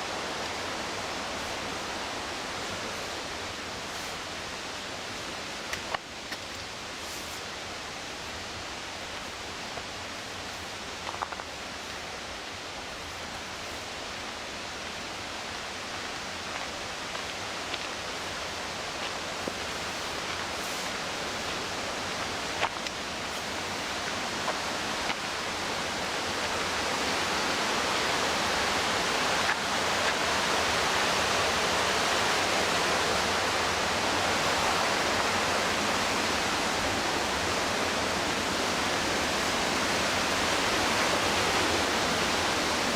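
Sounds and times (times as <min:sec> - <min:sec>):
rushing whitewater: 0:00.0 - 0:42.9.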